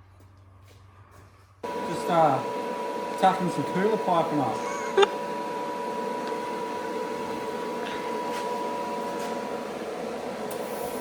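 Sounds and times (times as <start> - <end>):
machine hum with high tone: 1.6 - 11.0.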